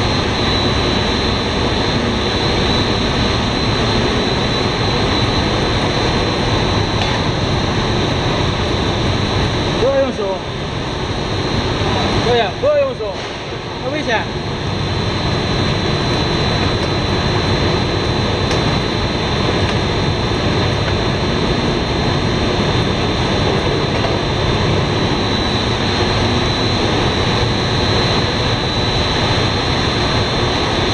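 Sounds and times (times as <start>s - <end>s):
high machine whine: 0.0s - 30.9s
machinery running: 0.0s - 30.9s.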